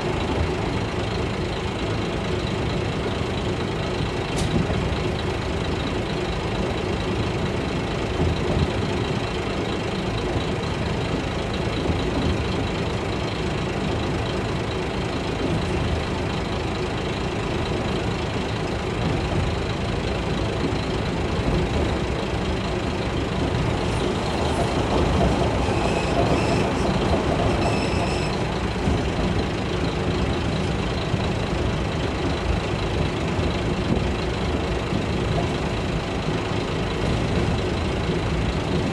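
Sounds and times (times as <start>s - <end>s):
diesel railcar engine drone: 0.0s - 38.9s
wheel and rail noise: 0.0s - 38.9s.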